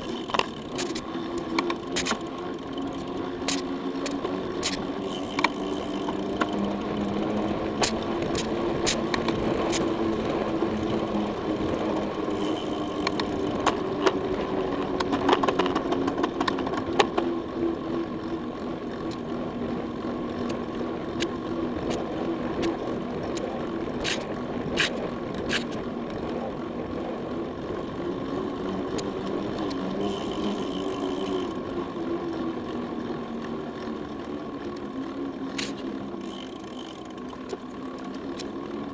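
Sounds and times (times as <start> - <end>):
bike clicks and rattles: 0.0 - 38.9
bike tyres humming on pavement: 0.0 - 38.9.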